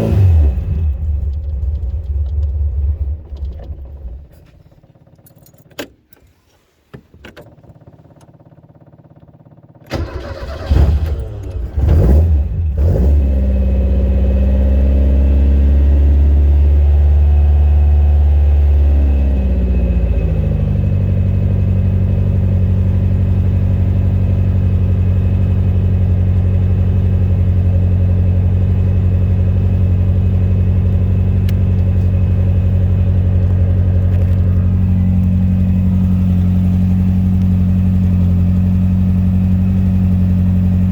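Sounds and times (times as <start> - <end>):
car engine starting and idling: 0.0 - 40.9.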